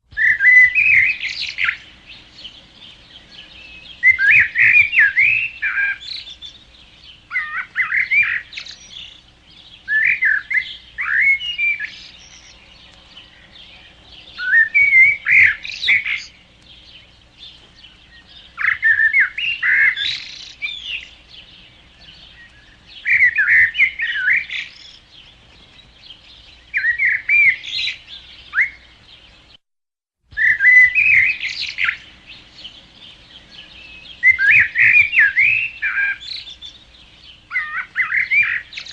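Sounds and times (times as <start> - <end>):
faint steady background noise: 0.0 - 29.6, 30.2 - 38.9
songbirds whistling warbled phrases: 0.1 - 29.5, 30.3 - 38.9.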